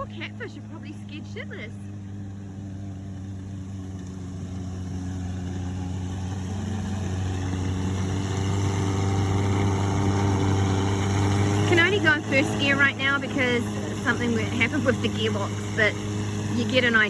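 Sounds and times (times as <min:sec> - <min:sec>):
truck engine running steadily: 0:00.0 - 0:17.0.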